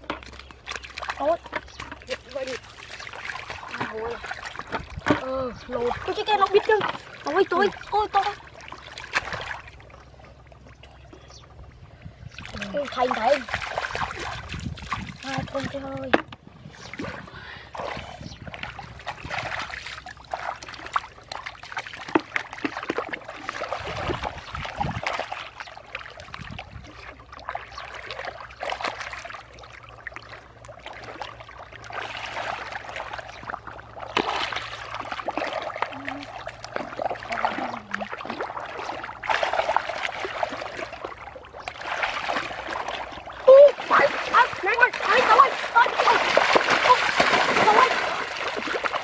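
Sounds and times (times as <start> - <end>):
hands splashing muddy water: 0.0 - 10.2, 12.4 - 16.1, 16.7 - 49.0.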